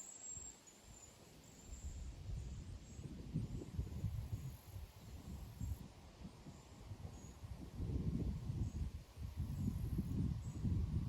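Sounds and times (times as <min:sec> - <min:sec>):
wind buffeting microphone: 0:02.0 - 0:11.0.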